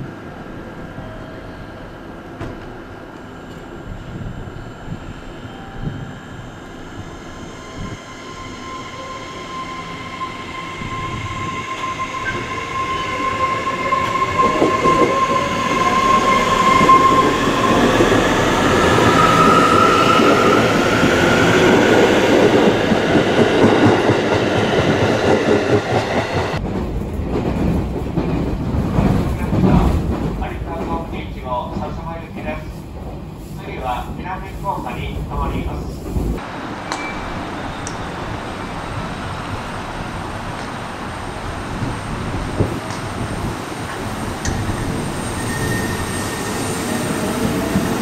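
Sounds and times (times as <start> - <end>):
electric train pulling into station: 0.0 - 48.0
rumble of train wheels: 0.0 - 48.0.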